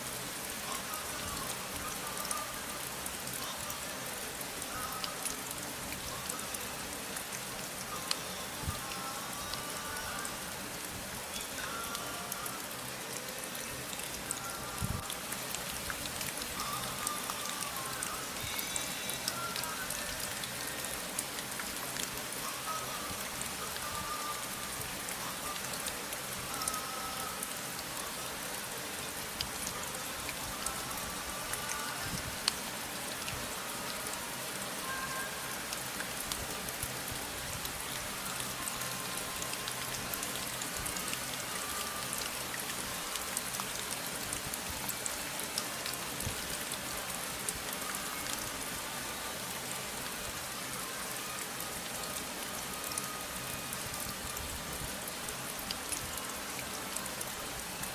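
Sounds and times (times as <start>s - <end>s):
rain drops ticking: 0.0s - 57.9s.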